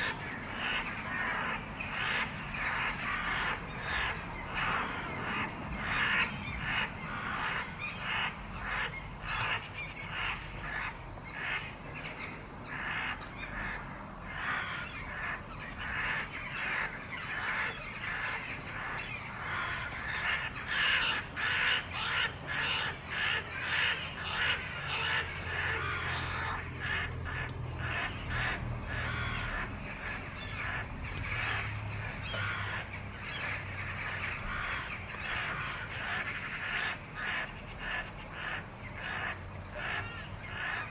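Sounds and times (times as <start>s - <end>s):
harsh bird calls: 0.0s - 40.9s.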